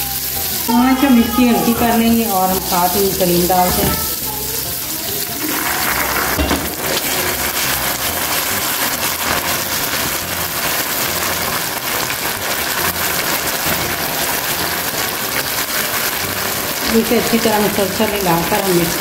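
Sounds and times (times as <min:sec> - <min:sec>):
caramel sizzling in a pan: 0:00.0 - 0:19.0
whisking: 0:00.0 - 0:19.0.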